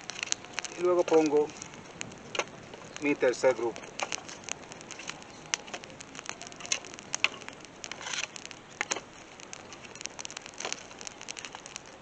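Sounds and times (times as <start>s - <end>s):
campfire crackling: 0.0s - 12.0s
faint hiss of burning: 0.0s - 12.0s
sharp pops and snaps: 0.0s - 12.0s.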